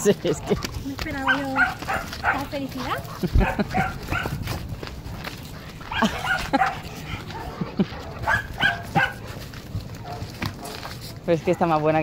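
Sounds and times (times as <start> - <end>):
dogs play-barking and yipping: 0.0 - 4.7, 5.3 - 12.0.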